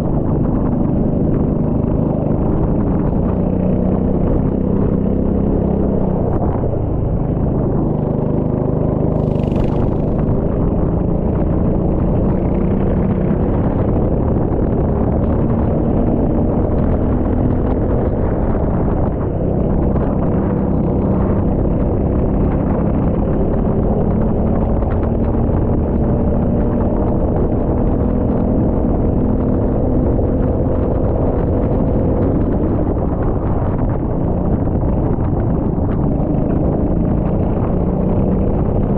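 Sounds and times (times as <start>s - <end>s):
heavy constant rumble: 0.0s - 38.9s.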